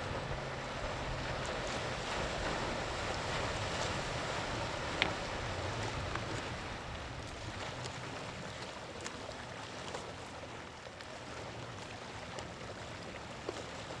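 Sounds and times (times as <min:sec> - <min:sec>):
water lapping around boat: 0:00.0 - 0:14.0
small splashes and ticks: 0:00.4 - 0:14.0.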